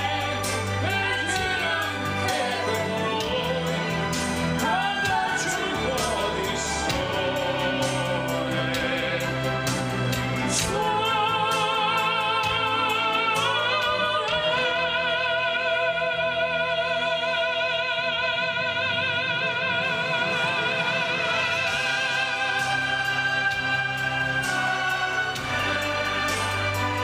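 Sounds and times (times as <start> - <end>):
operatic singing with orchestra: 0.0 - 27.0.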